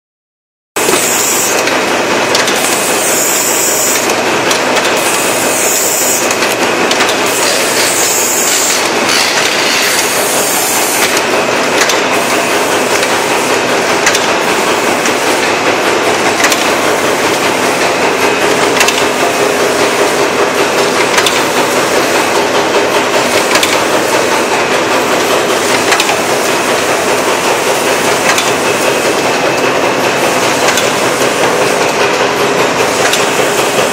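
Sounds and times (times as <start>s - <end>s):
machinery clatter: 0.8s - 33.9s.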